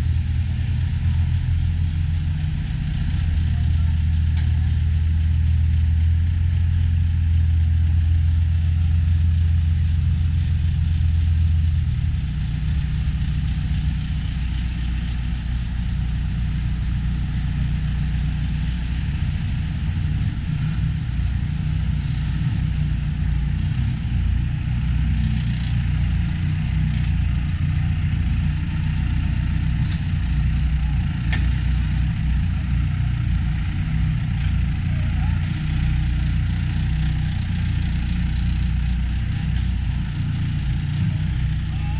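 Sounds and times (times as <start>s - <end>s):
large vehicle engine idling: 0.0s - 41.9s.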